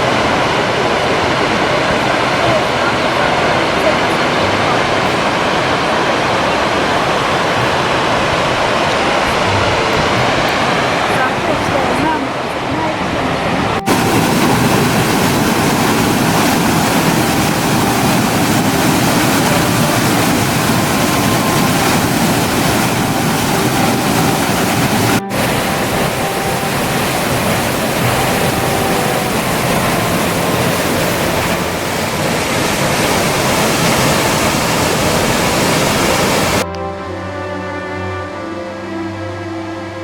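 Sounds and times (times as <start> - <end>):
waterfall roaring: 0.0 - 36.7.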